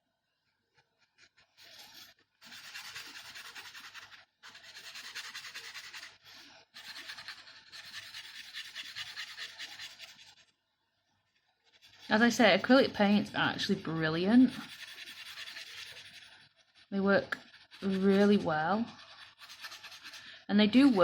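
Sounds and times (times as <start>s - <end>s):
paintbrush scratching on wood: 1.0s - 10.6s, 11.3s - 21.0s.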